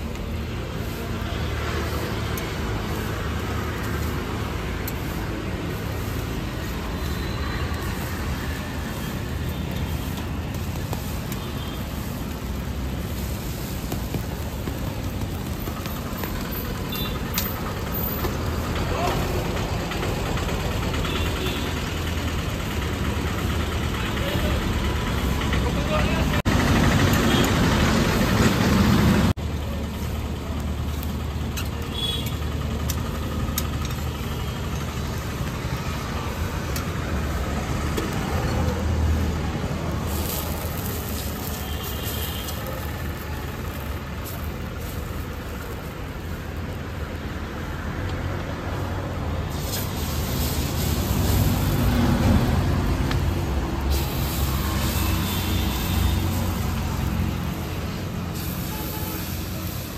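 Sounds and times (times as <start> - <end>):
batter sizzling on hot griddle: 0.0 - 47.8, 48.7 - 59.9
low rumble of street traffic: 0.0 - 59.9.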